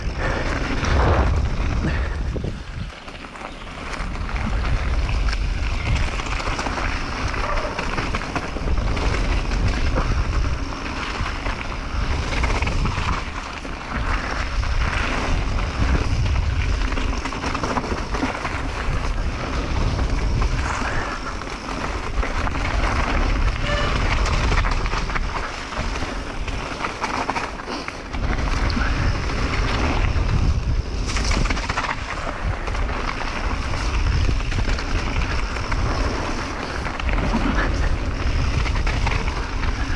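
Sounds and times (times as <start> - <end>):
bike knocking and rattling: 0.0 - 39.9
tyres on gravel trail: 0.0 - 39.9
wind buffeting microphone: 0.0 - 39.9.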